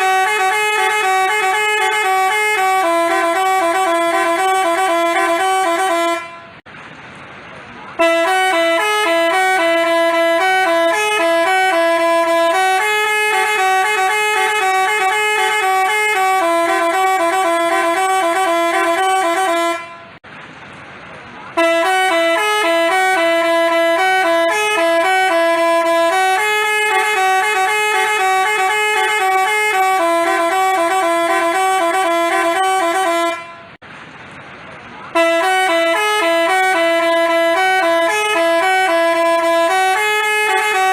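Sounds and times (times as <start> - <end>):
musical bus horn melody: 0.0 - 6.7, 7.9 - 20.2, 21.5 - 33.8, 35.1 - 40.9.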